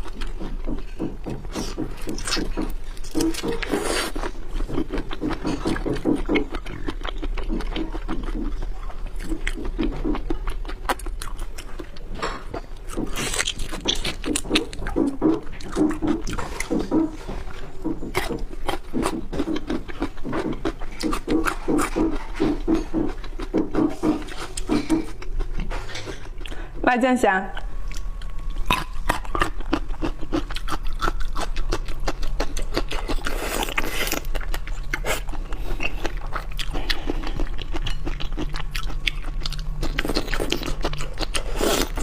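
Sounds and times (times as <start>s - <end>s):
wet chewing: 0.0s - 26.6s, 27.5s - 42.0s.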